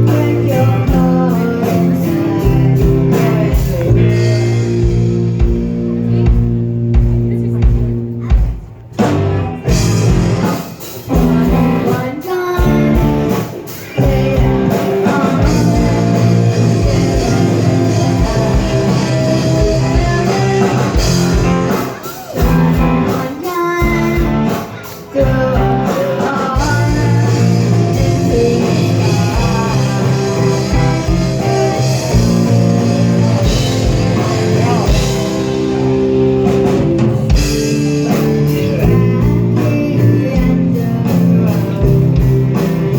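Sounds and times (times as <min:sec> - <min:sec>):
person singing: 0:00.0 - 0:05.6, 0:09.7 - 0:42.9
drum kit: 0:00.0 - 0:42.9
rock guitar: 0:00.0 - 0:42.9.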